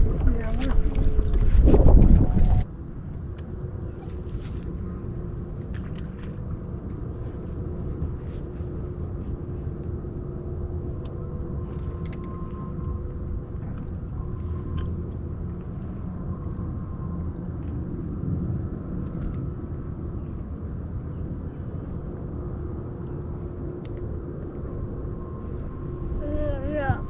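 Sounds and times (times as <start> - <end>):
boat motor rumbling: 0.0 - 27.0.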